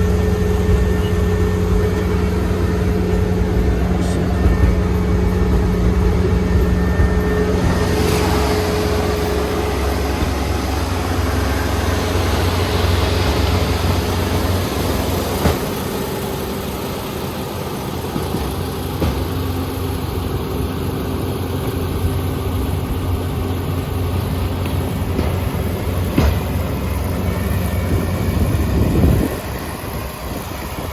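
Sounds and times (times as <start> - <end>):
combine harvester engine running: 0.0 - 30.9.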